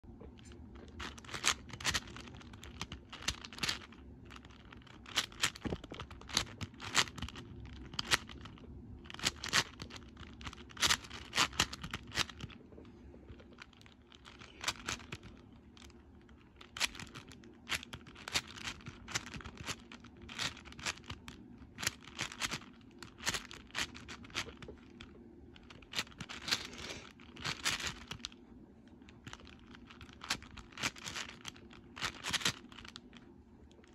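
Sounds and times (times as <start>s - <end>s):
puzzle cube clicking: 0.8s - 12.6s, 14.2s - 25.0s, 25.6s - 28.4s, 29.3s - 33.2s.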